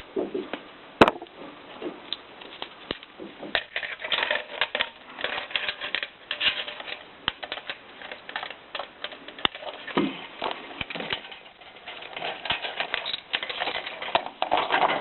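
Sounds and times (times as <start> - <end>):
metal parts clicking and tapping: 2.1 - 15.0.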